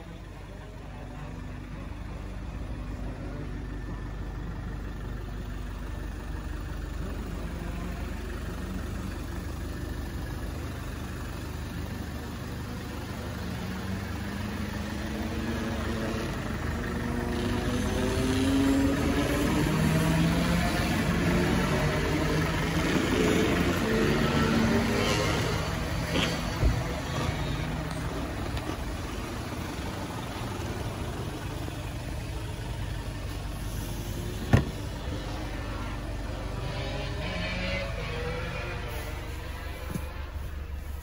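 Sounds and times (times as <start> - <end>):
diesel car engine idling: 0.0 - 37.2, 37.9 - 41.0.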